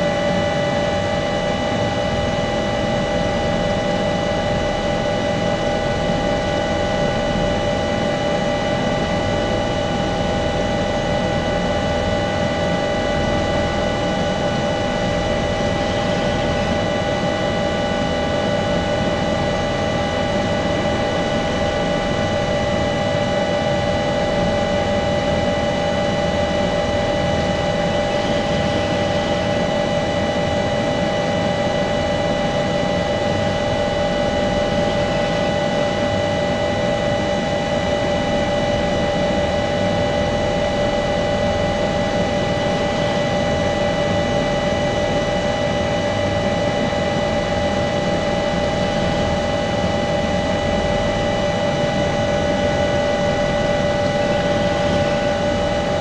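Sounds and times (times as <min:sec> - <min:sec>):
helicopter rotor rushing noise: 0:00.0 - 0:56.0
helicopter turbine whine: 0:00.0 - 0:56.0.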